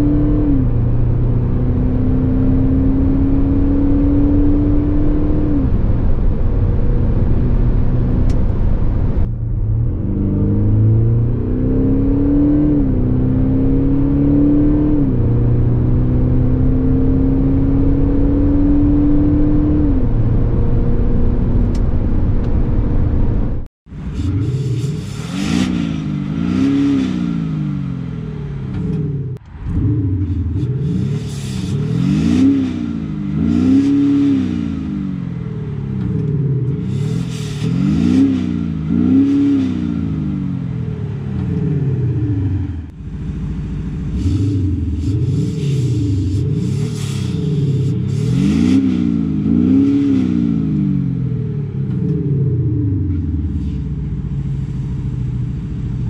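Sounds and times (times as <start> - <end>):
engine revving at standstill: 0.0 - 22.8, 24.1 - 54.4
diesel car accelerating: 0.0 - 56.0.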